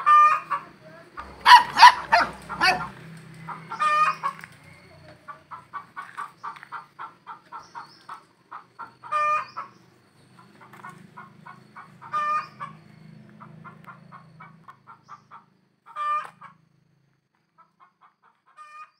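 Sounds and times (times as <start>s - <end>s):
chickens clucking: 0.0s - 16.6s, 17.5s - 18.9s.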